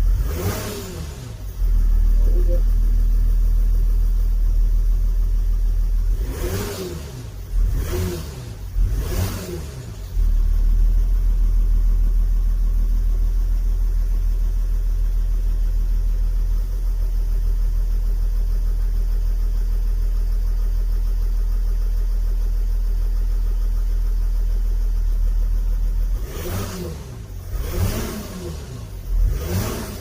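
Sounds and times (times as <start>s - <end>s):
diesel engine idling and revving: 0.0s - 30.0s
engine rattle: 0.0s - 30.0s.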